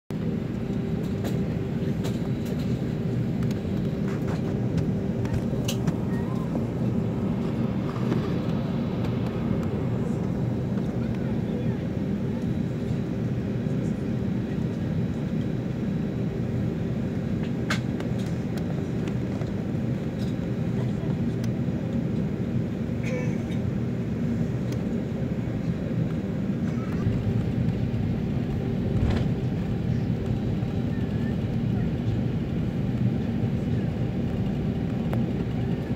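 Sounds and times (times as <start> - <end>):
airliner engine rumble: 0.1 - 35.9.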